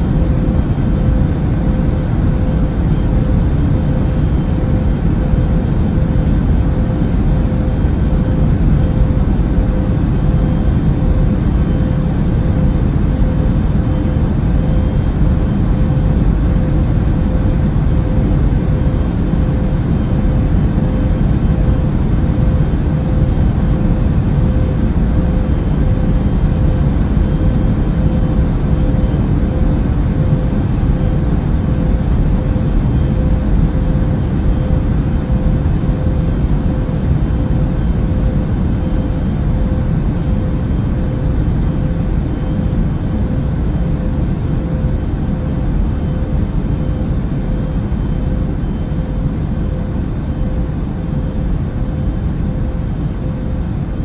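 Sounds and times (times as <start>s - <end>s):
airliner deep rumbling drone: 0.0s - 54.0s.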